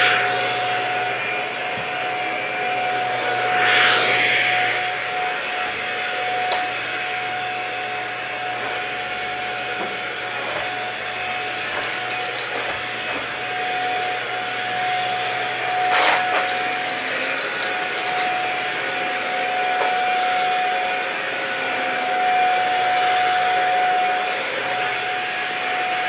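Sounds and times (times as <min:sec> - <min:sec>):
vacuum cleaner running on rug: 0:00.0 - 0:26.0.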